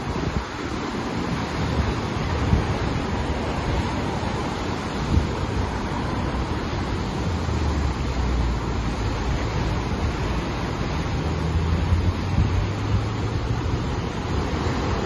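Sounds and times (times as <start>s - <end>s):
ocean surf on rocky shore: 0.0s - 15.0s
wind buffeting microphone: 0.0s - 15.0s.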